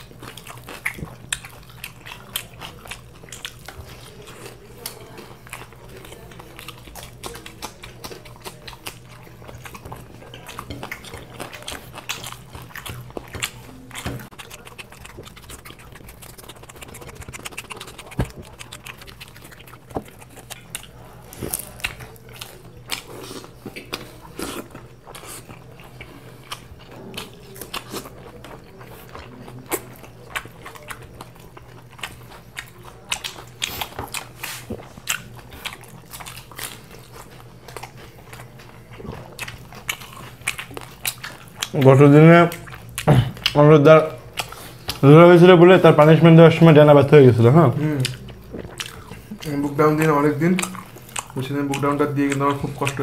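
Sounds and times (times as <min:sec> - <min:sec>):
chewing crunches: 0:00.0 - 0:53.0
faint steady hum: 0:00.0 - 0:53.0.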